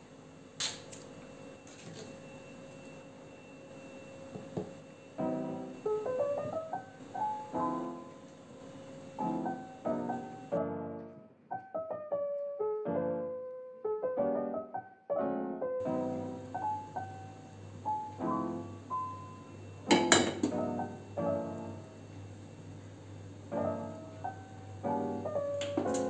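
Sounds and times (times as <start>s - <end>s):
piano music: 3.4s - 26.0s.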